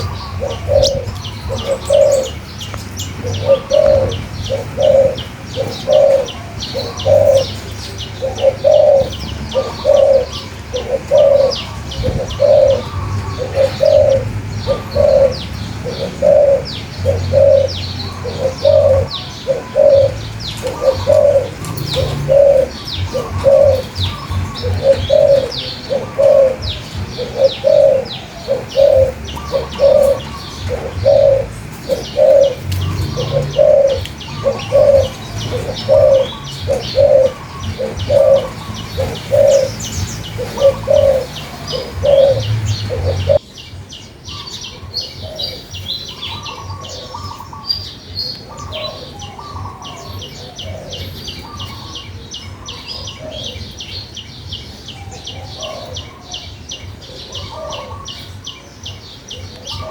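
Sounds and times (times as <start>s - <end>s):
dove cooing: 0.0s - 43.5s, 44.3s - 59.9s
small birds chirping: 0.0s - 59.9s.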